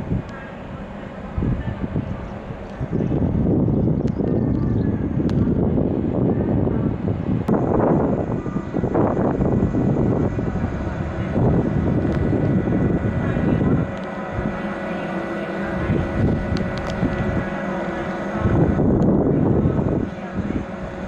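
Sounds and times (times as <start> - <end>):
train rumbling with high whine: 0.0 - 21.0.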